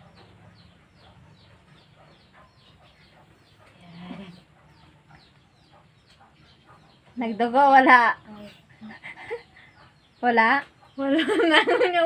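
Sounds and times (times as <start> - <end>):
chicks peeping: 0.0 - 11.9.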